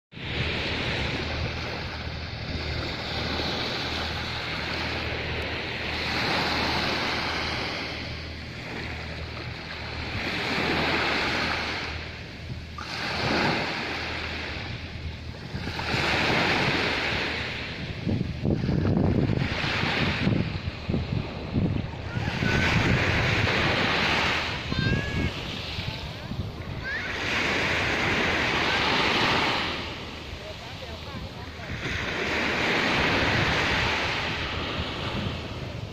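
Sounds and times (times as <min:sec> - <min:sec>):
waves washing on sandy beach: 0:00.1 - 0:35.9
wind rumble on microphone: 0:00.1 - 0:35.9.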